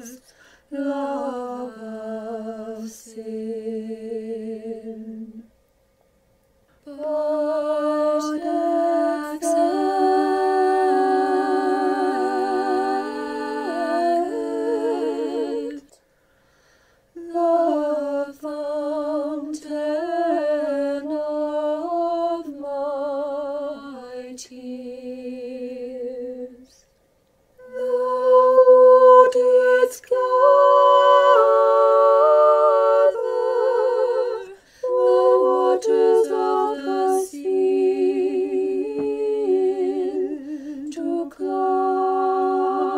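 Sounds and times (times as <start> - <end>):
choir singing a cappella chant: 0.0 - 5.5, 6.8 - 16.4, 17.2 - 26.8, 27.6 - 42.9.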